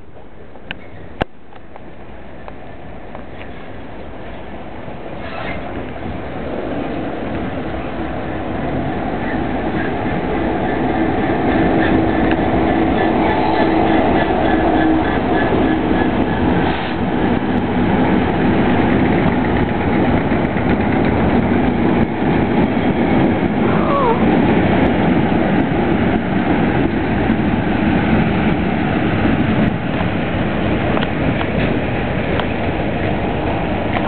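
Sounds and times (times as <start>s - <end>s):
locomotives rumbling on rails: 0.0s - 34.0s.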